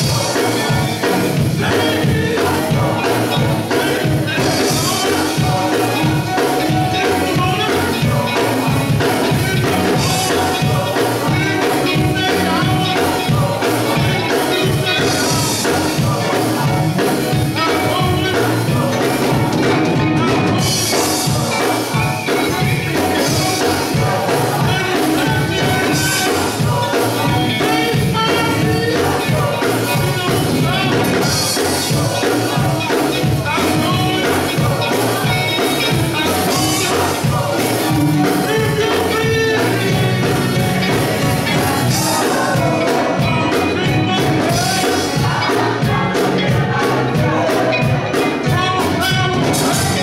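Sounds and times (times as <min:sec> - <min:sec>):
gospel group singing: 0:00.0 - 0:50.0
instrumental accompaniment with beat: 0:00.0 - 0:50.0.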